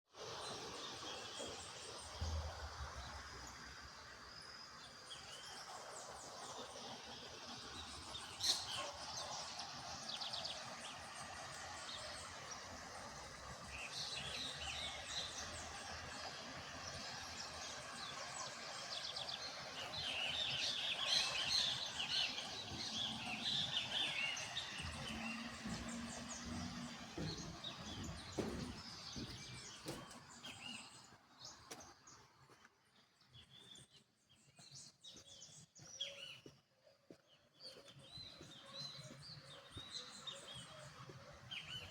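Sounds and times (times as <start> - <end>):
wild birds chirping and trilling: 0.3 - 11.2, 11.8 - 32.2, 33.0 - 41.9.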